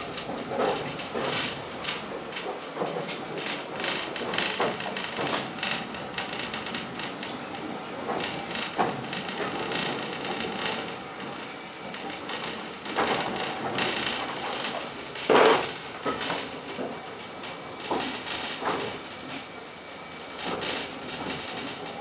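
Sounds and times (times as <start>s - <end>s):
railway carriage rattling on track: 0.0s - 22.0s.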